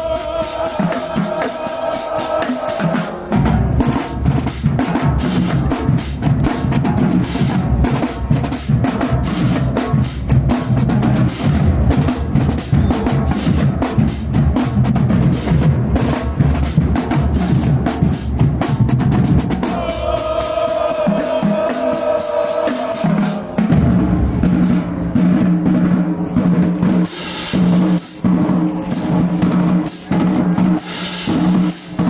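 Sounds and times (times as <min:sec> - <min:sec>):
snare drum strokes and rolls: 0:00.0 - 0:32.0.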